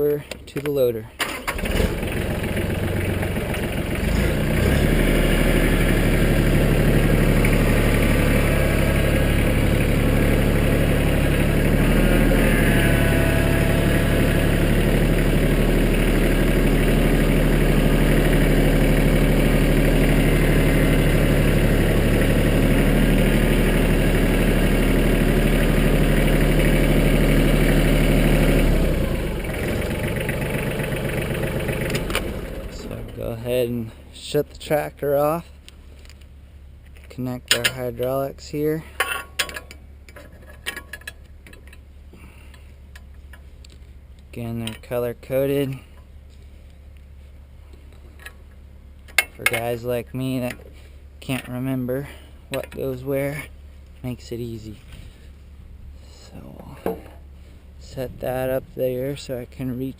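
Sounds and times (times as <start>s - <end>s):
tractor diesel engine running: 1.2s - 59.9s.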